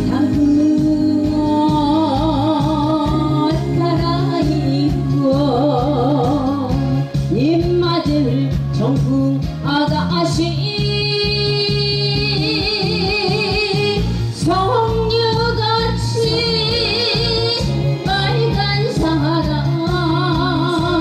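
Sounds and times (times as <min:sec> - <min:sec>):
music with steady beat: 0:00.0 - 0:21.0
woman singing with vibrato: 0:00.0 - 0:21.0.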